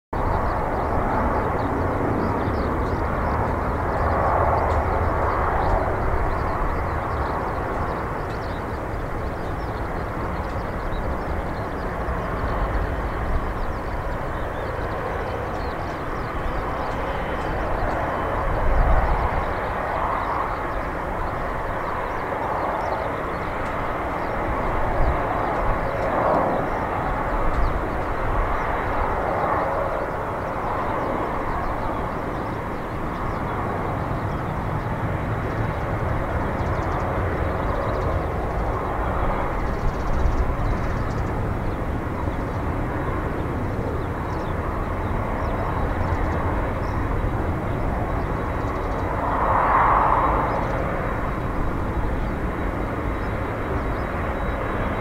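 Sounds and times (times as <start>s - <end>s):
jet engines at taxi thrust: 0.2s - 55.0s.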